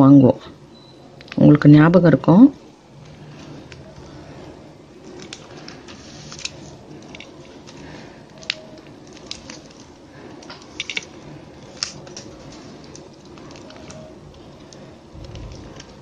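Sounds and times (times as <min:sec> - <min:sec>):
plastic tape strands crackling: 0:03.0 - 0:16.0.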